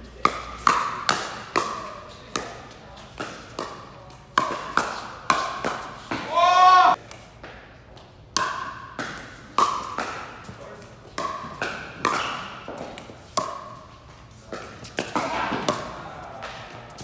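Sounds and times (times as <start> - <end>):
ball bouncing on court: 0.2 - 6.4, 8.3 - 17.0.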